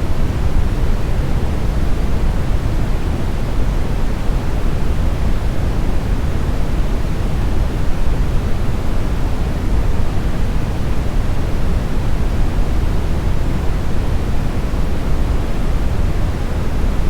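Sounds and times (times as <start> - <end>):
brown noise hiss: 0.0 - 17.0.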